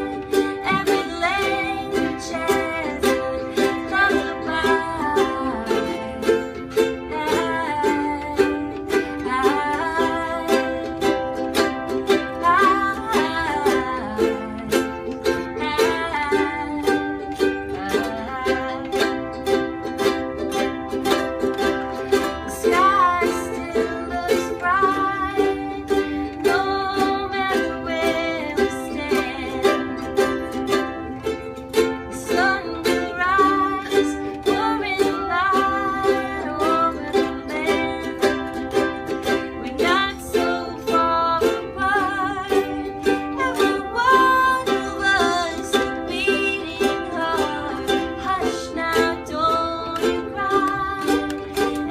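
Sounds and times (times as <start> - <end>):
person singing: 0.0 - 51.9
ukuleles strummed: 0.0 - 51.9.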